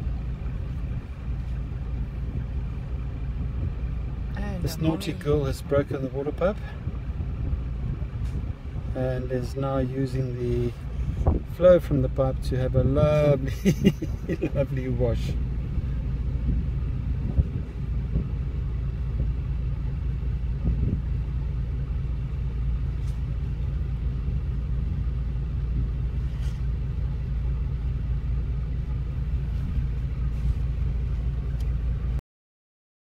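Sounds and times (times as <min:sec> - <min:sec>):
vehicle engine idling: 0:00.0 - 0:32.2.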